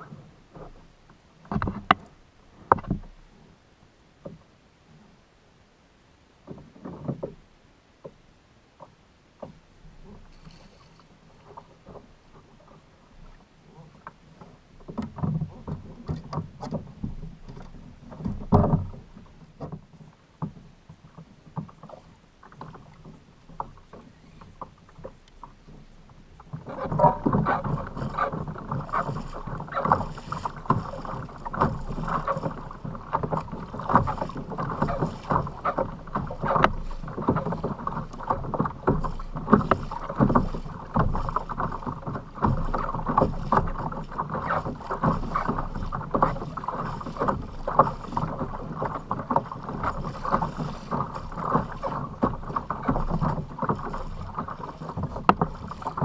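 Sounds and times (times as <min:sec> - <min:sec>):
knocks and bumps on hull: 0:00.0 - 0:03.2, 0:06.4 - 0:07.4, 0:11.4 - 0:56.0
water sloshing against kayak hull: 0:00.0 - 0:05.3, 0:06.2 - 0:56.0.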